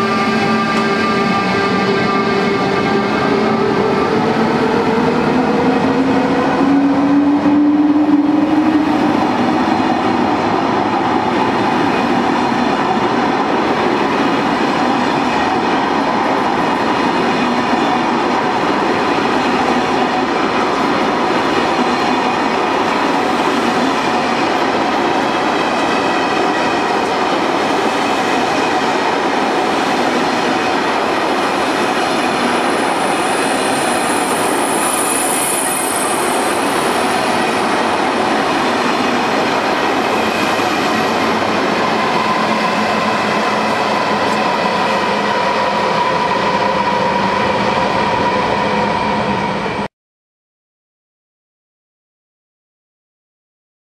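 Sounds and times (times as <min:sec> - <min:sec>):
train rolling past: 0:00.0 - 0:49.9.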